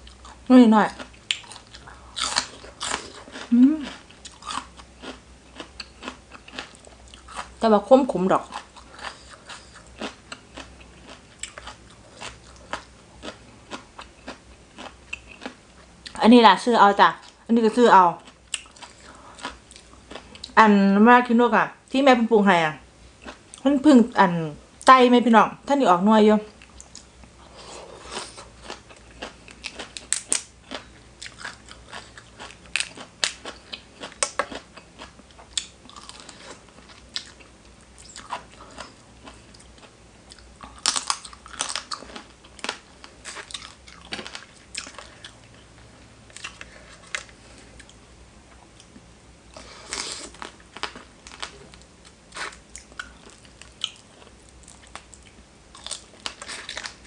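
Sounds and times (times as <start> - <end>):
person chewing crunchy food: 0.0 - 7.6, 8.4 - 16.2, 18.2 - 20.6, 23.2 - 23.6, 26.6 - 57.0.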